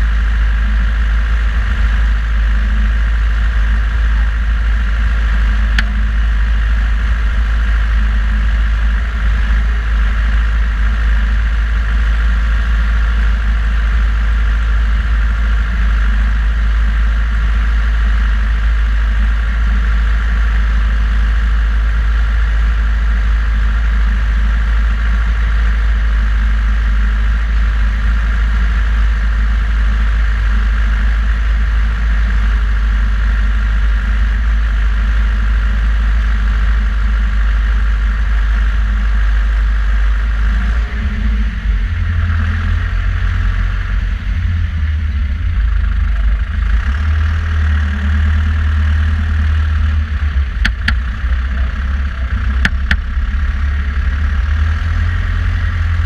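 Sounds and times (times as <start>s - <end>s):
diesel tractor engine rumbling: 0.0s - 56.0s.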